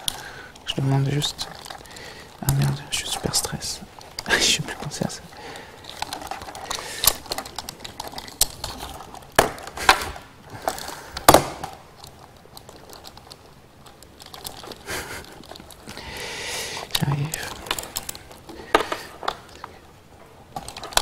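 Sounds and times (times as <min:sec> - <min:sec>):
laptop keyboard typing: 0:00.0 - 0:21.0.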